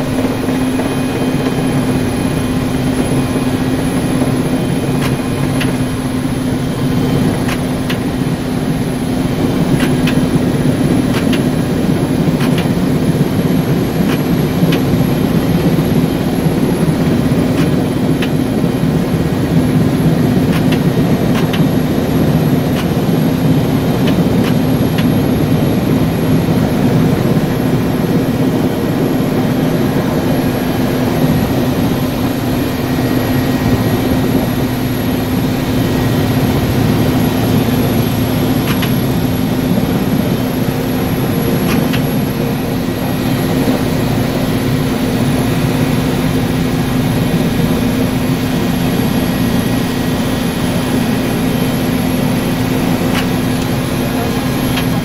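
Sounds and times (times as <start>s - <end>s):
helicopter engines and rotor: 0.0s - 55.0s.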